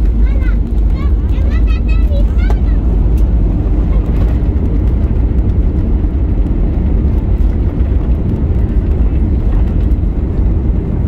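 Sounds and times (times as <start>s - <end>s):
aircraft cabin engine rumble: 0.0s - 11.0s
landing gear rolling on runway: 0.0s - 11.0s.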